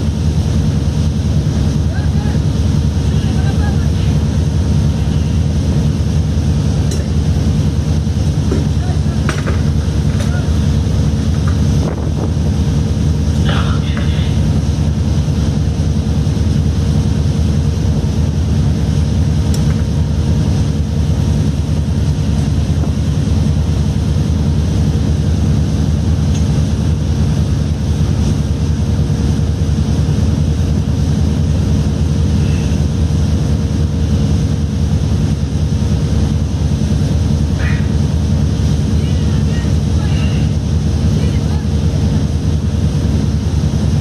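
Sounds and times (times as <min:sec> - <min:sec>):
low drone of boat engines: 0:00.0 - 0:44.0.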